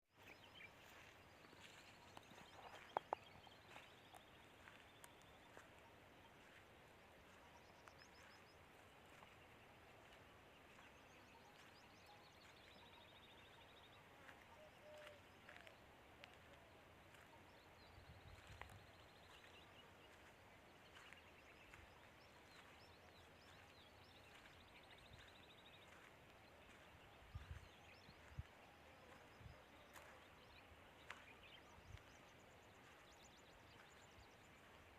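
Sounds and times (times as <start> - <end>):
distant bird calls: 0.2 - 34.9.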